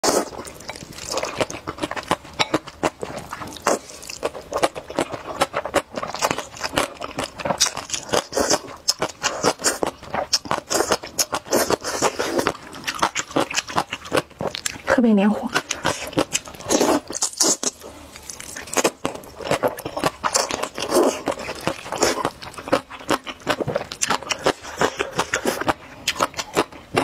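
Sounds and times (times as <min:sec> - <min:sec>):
slurping and chewing noodles: 0:00.0 - 0:27.0.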